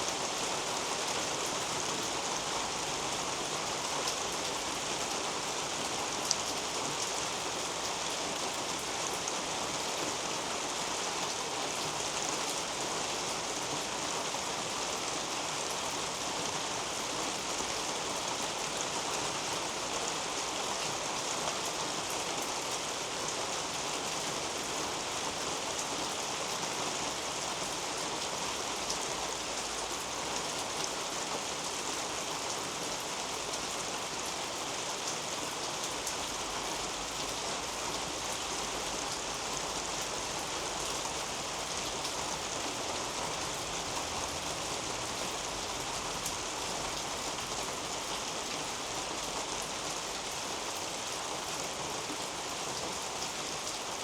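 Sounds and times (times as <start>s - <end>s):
rain pattering on leaves: 0.1s - 54.0s.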